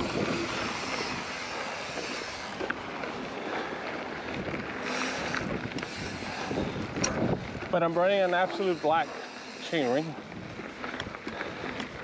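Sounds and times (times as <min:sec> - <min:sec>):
wind noise on microphone: 0:00.0 - 0:03.3, 0:04.2 - 0:09.0, 0:10.1 - 0:12.0.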